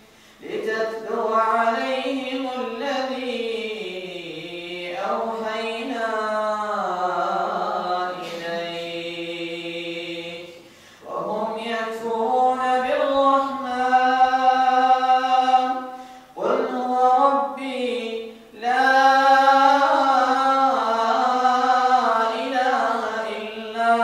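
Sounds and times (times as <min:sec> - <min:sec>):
man chanting melodically: 0:00.4 - 0:24.0.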